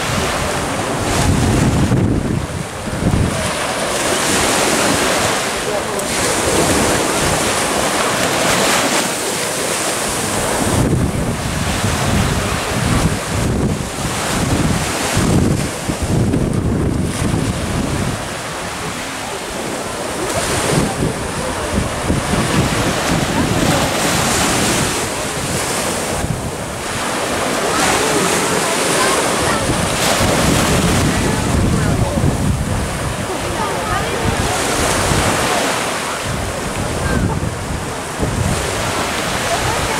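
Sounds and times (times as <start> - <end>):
surf washing on beach: 0.0 - 39.9
wind buffeting microphone: 0.0 - 39.9.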